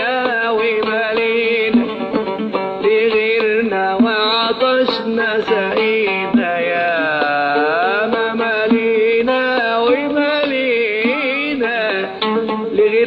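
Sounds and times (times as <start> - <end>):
oud plucked melody: 0.0 - 13.0.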